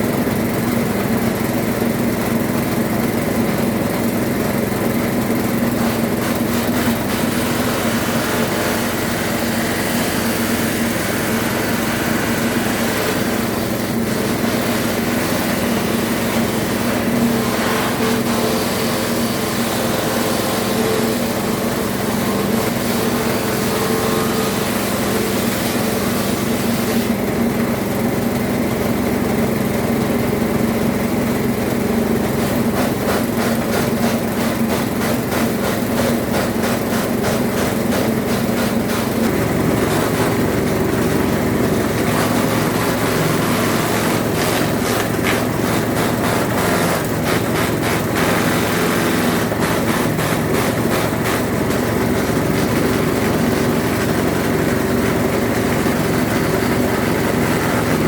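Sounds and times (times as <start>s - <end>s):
brush cutter engine running: 0.0s - 58.0s.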